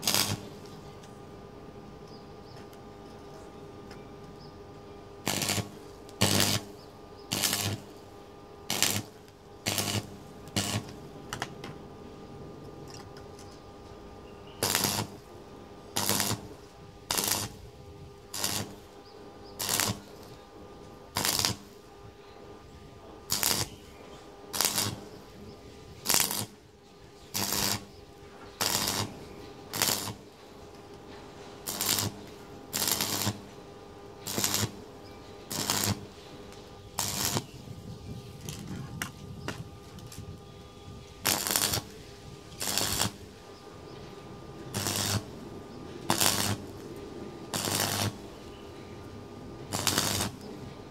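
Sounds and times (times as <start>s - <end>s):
arc welder crackling: 0.0s - 1.2s, 2.0s - 50.9s
faint steady hum: 0.0s - 50.9s
welder hum: 0.0s - 50.9s.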